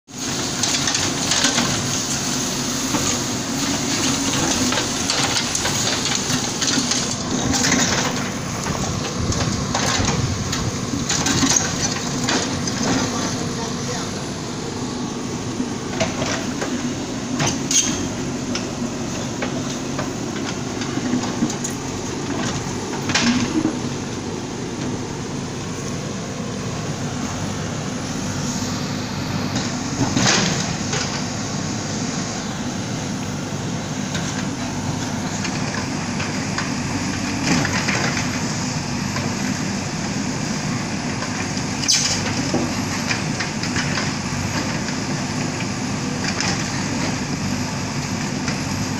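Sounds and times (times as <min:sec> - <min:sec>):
diesel engine under load: 0:00.1 - 0:48.9.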